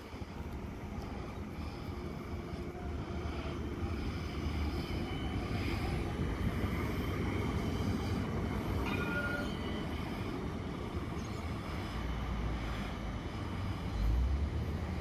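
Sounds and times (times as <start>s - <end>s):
tram wheels rolling on rails: 0.0s - 15.0s.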